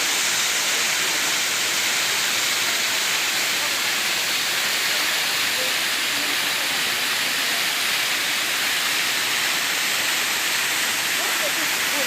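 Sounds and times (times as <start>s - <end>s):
waterfall rushing water: 0.0s - 12.0s.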